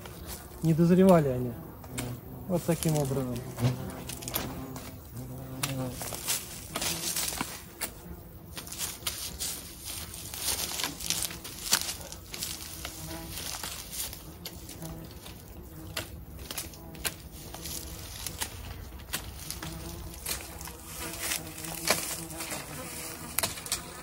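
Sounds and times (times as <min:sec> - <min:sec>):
plant stems rustling and snapping: 0:01.8 - 0:04.9, 0:05.6 - 0:23.9.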